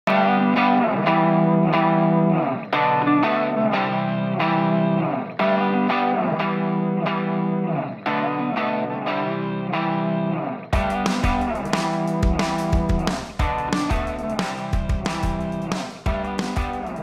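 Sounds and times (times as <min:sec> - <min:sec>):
distorted electric guitar riff: 0:00.1 - 0:17.0.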